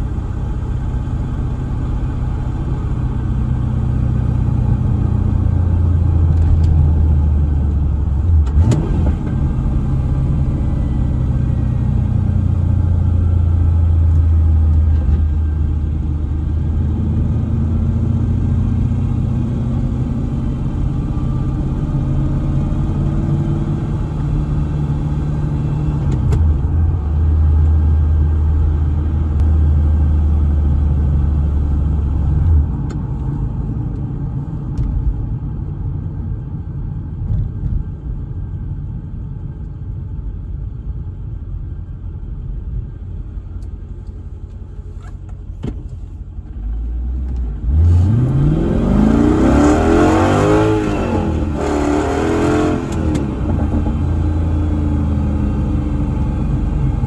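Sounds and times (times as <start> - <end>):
car engine drone: 0.0 - 57.0
road rumble: 0.0 - 57.0.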